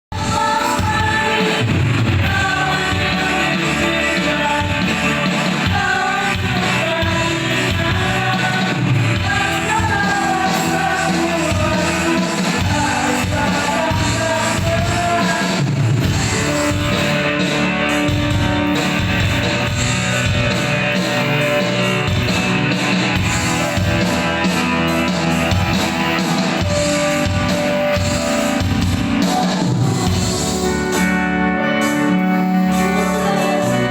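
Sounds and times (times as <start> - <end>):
person singing: 0.1 - 33.9
rock band music: 0.1 - 33.9
guitar strumming: 0.2 - 33.9.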